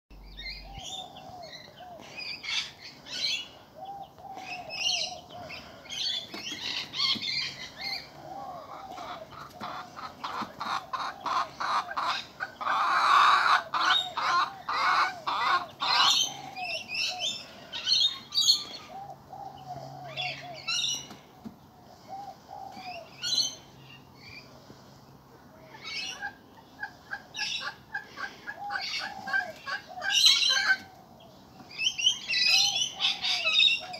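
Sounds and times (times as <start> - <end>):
chickens clucking and squawking: 0.2 - 33.9.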